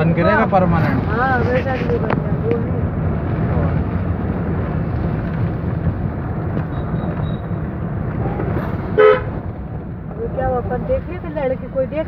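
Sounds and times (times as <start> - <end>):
moving vehicle rumble: 0.0 - 12.0.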